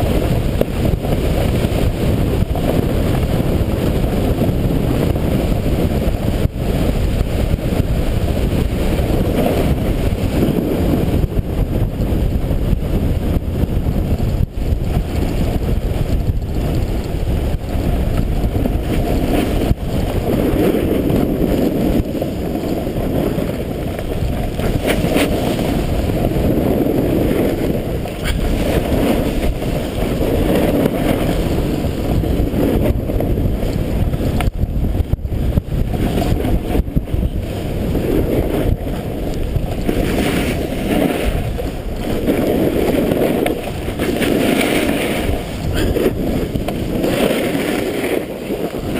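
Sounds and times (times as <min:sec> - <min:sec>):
snowboard scraping snow: 0:00.0 - 0:48.9
wind rushing over microphone: 0:00.0 - 0:48.9.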